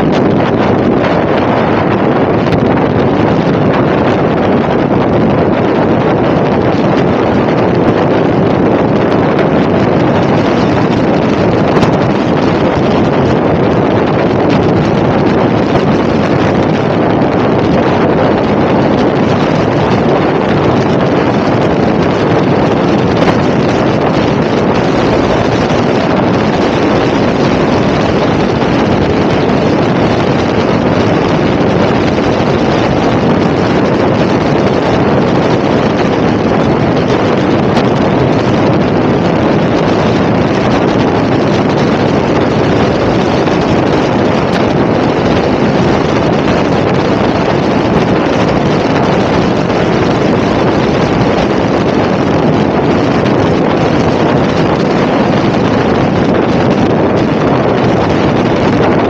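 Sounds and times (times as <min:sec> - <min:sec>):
road noise: 0:00.0 - 0:59.0
wind rushing over microphone: 0:00.0 - 0:59.0.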